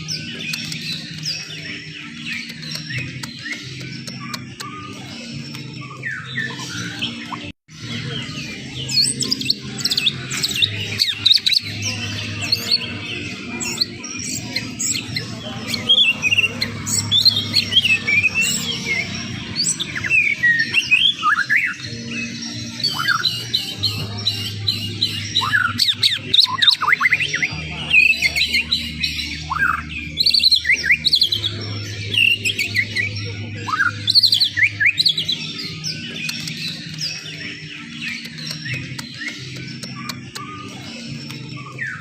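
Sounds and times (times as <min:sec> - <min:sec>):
bird singing whistled chirps: 0:00.0 - 0:42.0.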